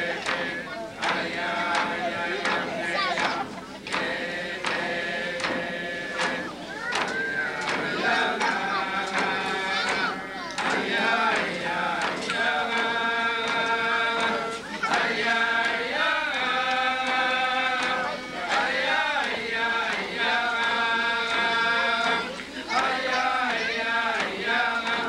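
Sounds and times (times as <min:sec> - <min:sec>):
group chanting in unison: 0:00.0 - 0:25.0.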